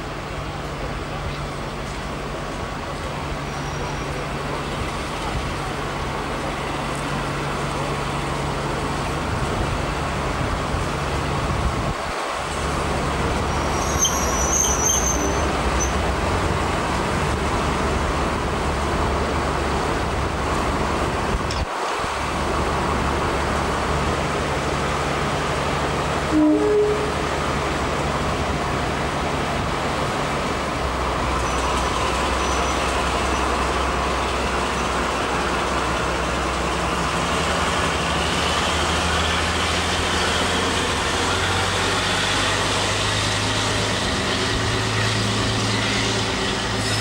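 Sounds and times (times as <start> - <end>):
diesel locomotive engines idling: 0.0 - 47.0.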